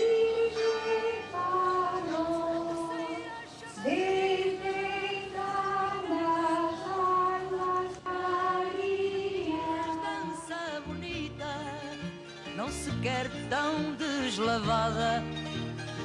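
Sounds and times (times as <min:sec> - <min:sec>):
woman singing with vibrato: 0:00.0 - 0:15.4.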